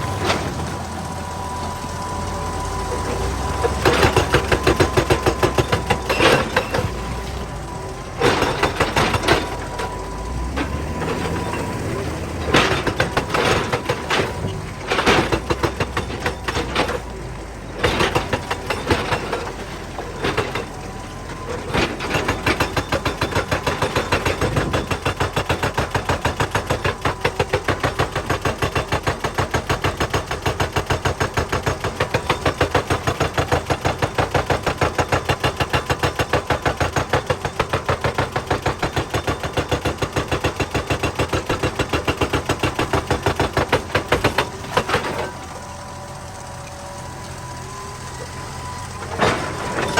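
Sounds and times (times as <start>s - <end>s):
hydraulic breaker hammering rock: 3.0s - 7.5s, 8.1s - 45.6s.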